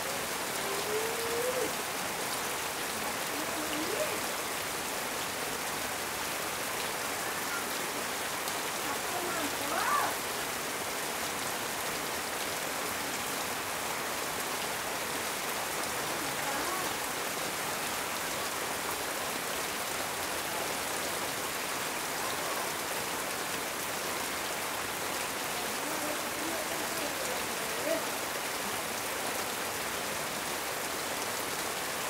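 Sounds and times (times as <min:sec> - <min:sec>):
heavy rain on metal roof: 0:00.0 - 0:32.0.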